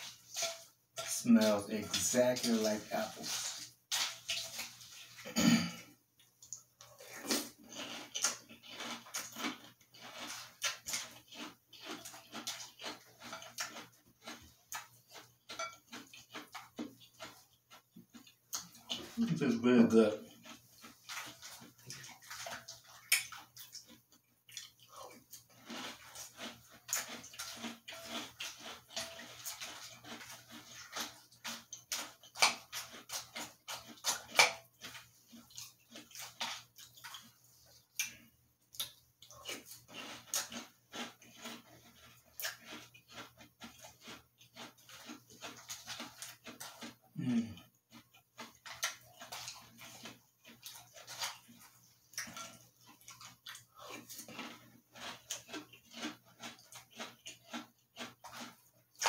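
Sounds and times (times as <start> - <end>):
person chewing crunchy cereal: 0.0 - 59.0.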